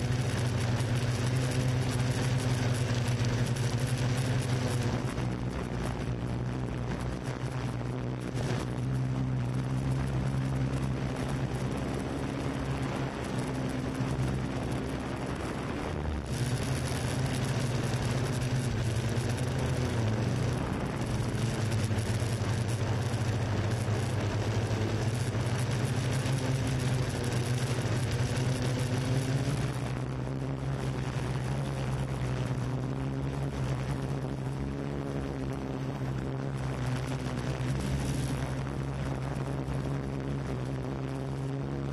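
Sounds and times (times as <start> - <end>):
drone motors humming: 0.0 - 41.9.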